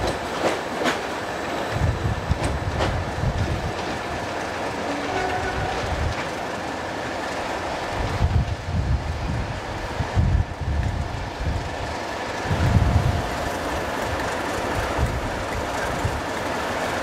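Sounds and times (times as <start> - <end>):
wind buffeting microphone: 0.0 - 6.4, 7.4 - 17.0
train running along track: 0.0 - 17.0.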